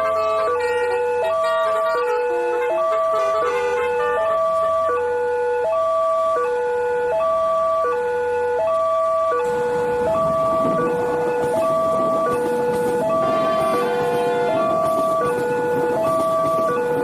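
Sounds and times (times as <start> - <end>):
two-tone crossing siren: 0.0 - 17.0.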